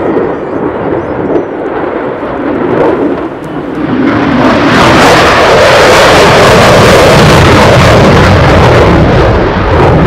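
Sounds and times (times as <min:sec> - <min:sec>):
jet engine deep rumble: 0:00.0 - 0:10.0.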